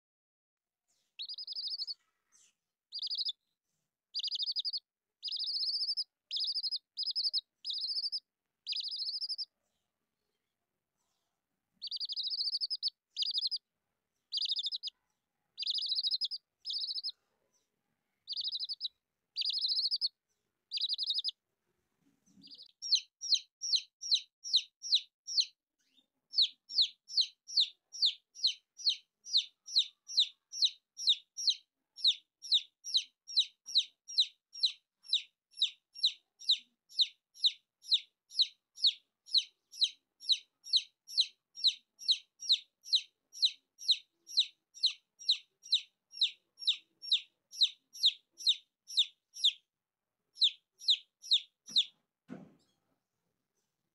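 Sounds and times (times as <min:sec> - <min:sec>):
baby chicks peeping: 0:00.9 - 0:03.4, 0:04.1 - 0:09.5, 0:11.7 - 0:13.7, 0:14.3 - 0:15.0, 0:15.6 - 0:21.4, 0:22.0 - 0:49.7, 0:50.3 - 0:52.0.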